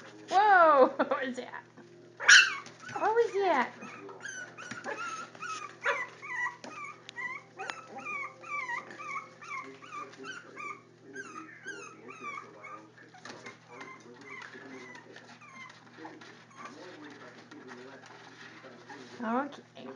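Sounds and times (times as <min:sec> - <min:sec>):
puppies whining: 0:02.1 - 0:19.2.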